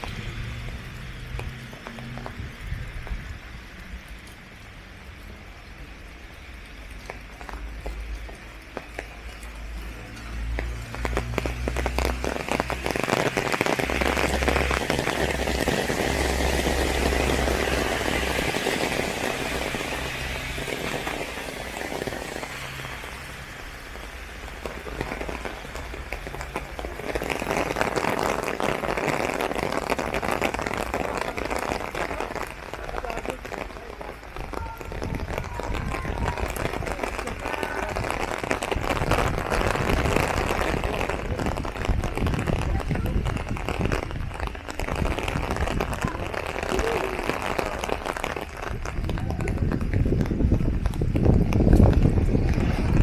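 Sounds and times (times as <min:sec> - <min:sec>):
rain pattering on an umbrella: 0:00.0 - 0:53.0.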